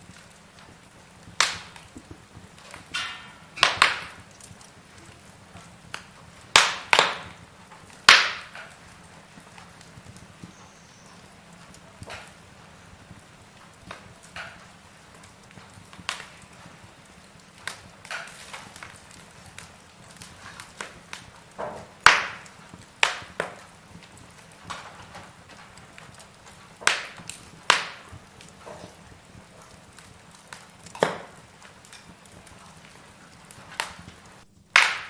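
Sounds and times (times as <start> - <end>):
fire crackling and popping: 0.0 - 35.0
low steady hiss: 0.0 - 35.0.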